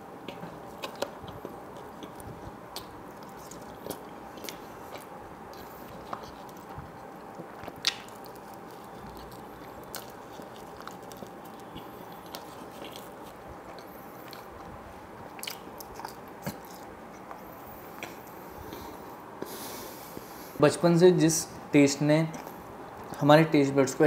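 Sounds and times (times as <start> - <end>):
mouth clicks and crunches: 0.2 - 19.6
person chewing and biting food: 0.2 - 20.3.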